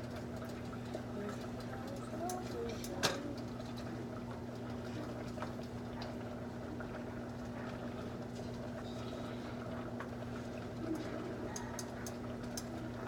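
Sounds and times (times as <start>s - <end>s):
low electrical hum: 0.0s - 13.0s
pot of pasta bubbling: 0.0s - 13.0s.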